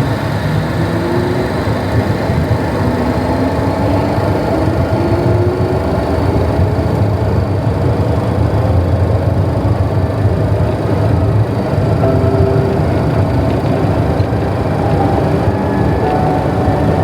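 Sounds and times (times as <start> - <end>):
jet engines rumbling in cockpit: 0.0 - 17.0.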